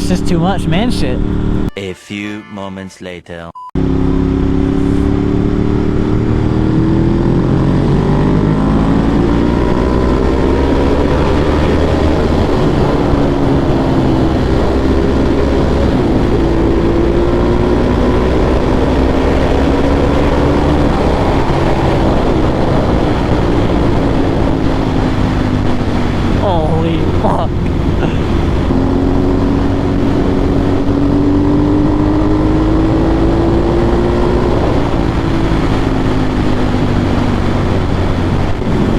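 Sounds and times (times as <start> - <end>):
motorcycle engine accelerating: 0.0 - 1.7, 3.8 - 38.9.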